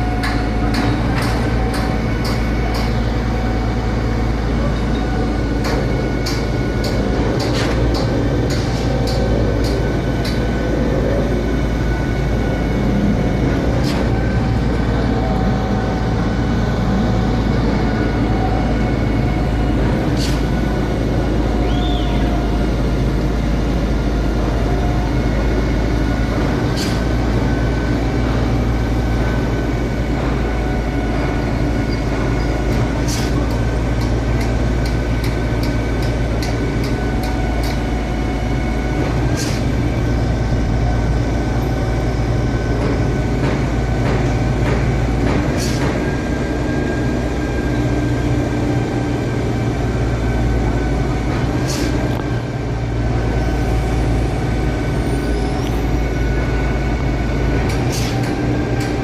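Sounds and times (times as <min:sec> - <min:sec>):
diesel engine rumbling: 0:00.0 - 0:59.0
steady engine tones: 0:00.0 - 0:59.0.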